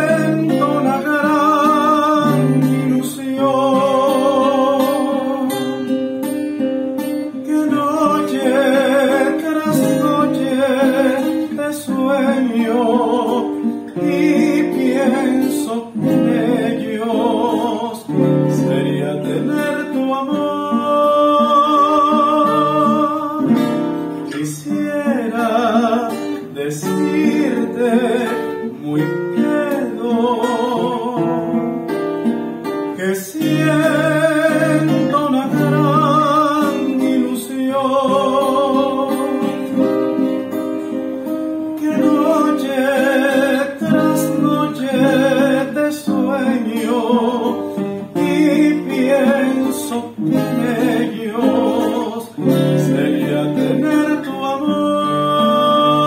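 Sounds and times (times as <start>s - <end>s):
man singing with vibrato: 0.0s - 56.0s
plucked acoustic guitar: 0.0s - 56.0s.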